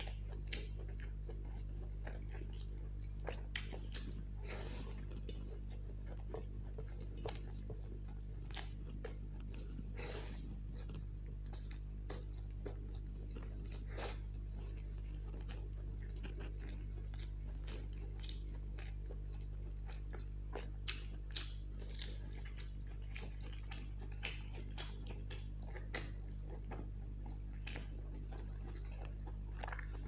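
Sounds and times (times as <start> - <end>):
chewing and wet lip-smacking: 0.0 - 30.0
steady low hum: 0.0 - 30.0.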